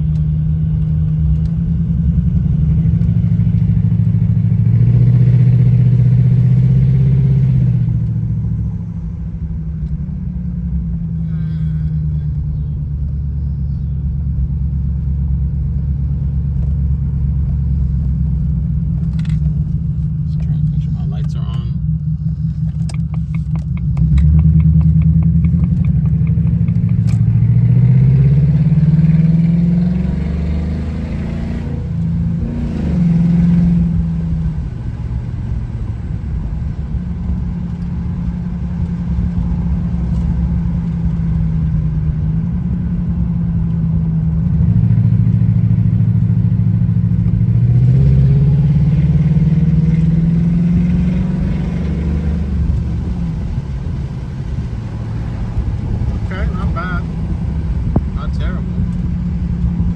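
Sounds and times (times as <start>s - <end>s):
car engine accelerating: 0.0s - 59.9s
road rumble: 0.0s - 59.9s.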